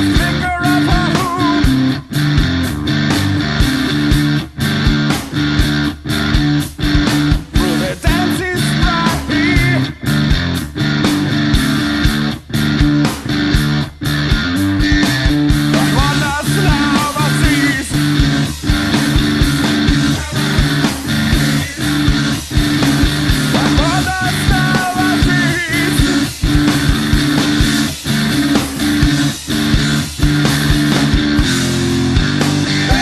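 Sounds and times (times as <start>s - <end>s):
heavy rock music: 0.0s - 33.0s.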